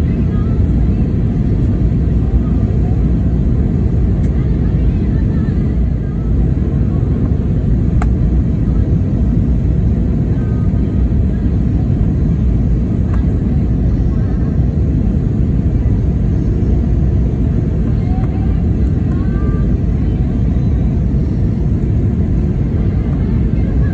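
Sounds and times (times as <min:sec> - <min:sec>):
airplane engine roar in cabin: 0:00.0 - 0:23.9.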